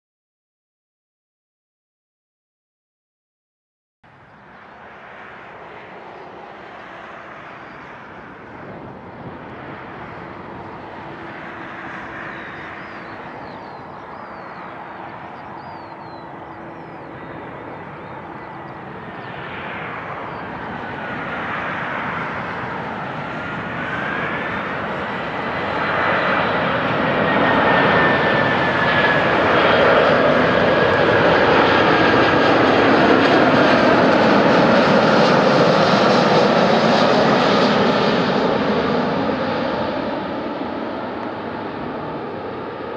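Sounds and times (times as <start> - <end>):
airliner rumble: 4.1 - 42.9
jet engine whine: 4.1 - 42.9.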